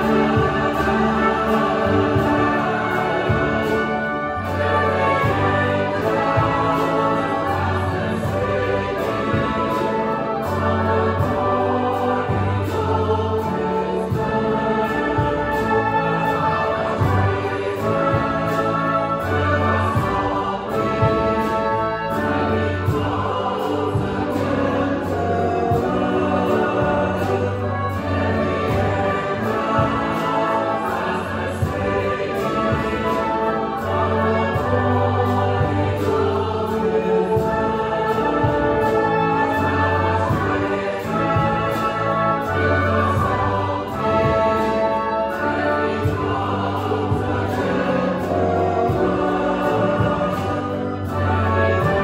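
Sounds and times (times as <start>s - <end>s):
choir singing in harmony: 0.0s - 52.0s
orchestral accompaniment: 0.0s - 52.0s.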